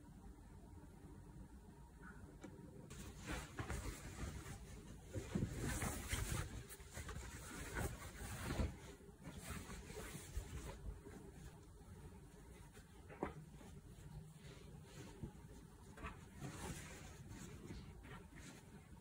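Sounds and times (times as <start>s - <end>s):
fabric rustling: 2.9s - 19.0s.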